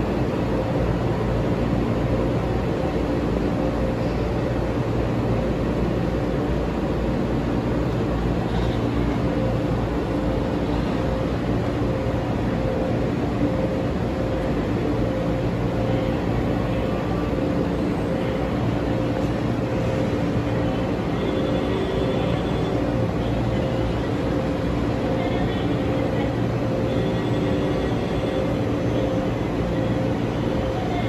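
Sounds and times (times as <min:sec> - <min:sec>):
faint hum tones: 0:00.0 - 0:31.0
low mechanical drone: 0:00.0 - 0:31.0.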